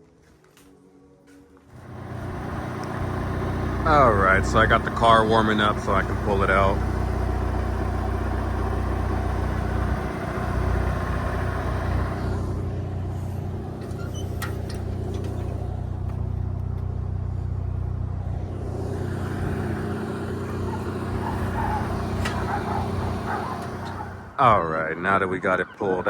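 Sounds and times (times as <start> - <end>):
car engine idling: 1.7 - 26.0.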